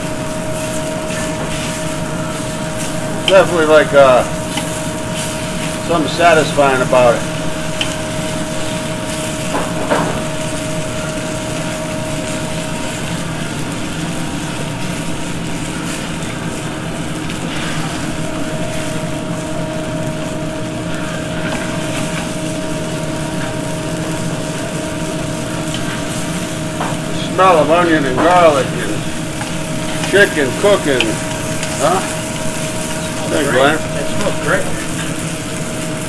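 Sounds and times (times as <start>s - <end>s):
food sizzling in a pan: 0.0s - 36.0s
gas burners and ventilation roar: 0.0s - 36.0s.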